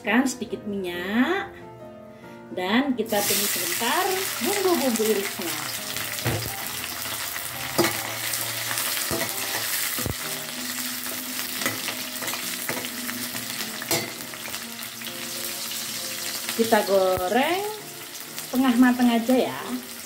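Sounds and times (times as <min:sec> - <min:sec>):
frying in hot oil: 0:03.1 - 0:20.0.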